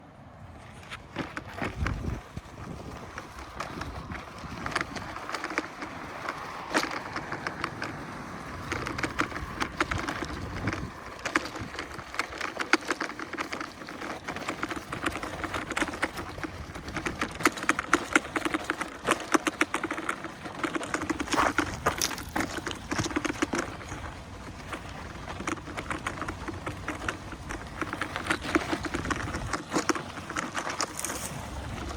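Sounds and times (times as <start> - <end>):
brush scraping past wheel: 0.5 - 31.9
tyre rolling on dirt: 0.6 - 31.9.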